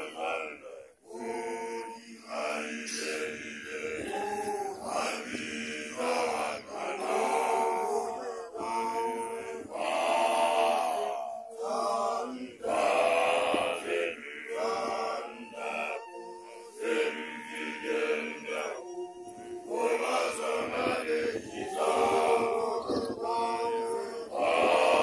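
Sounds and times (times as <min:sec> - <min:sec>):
young men chanting: 0:00.0 - 0:25.0.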